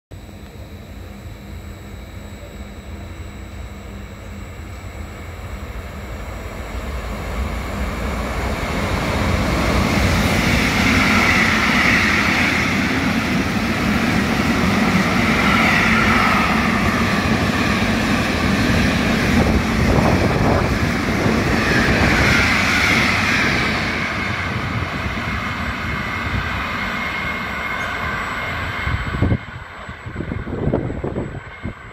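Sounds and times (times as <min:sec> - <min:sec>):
freight train passing at speed: 0:00.1 - 0:31.9.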